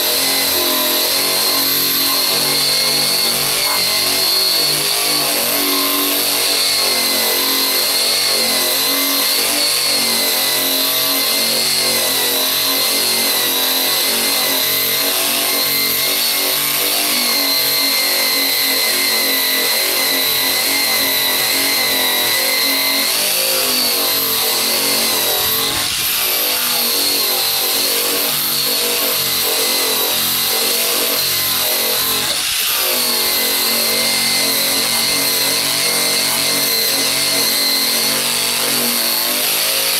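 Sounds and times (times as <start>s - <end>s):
abrasive tool motor whine: 0.0s - 39.9s.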